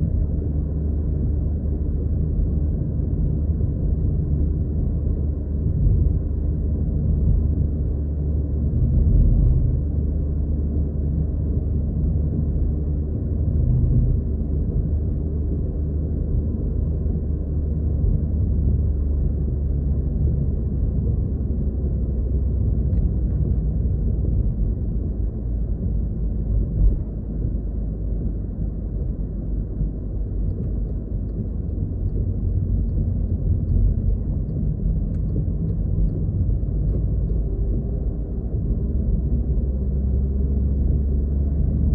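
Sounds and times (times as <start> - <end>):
car cabin road drone: 0.0 - 41.9.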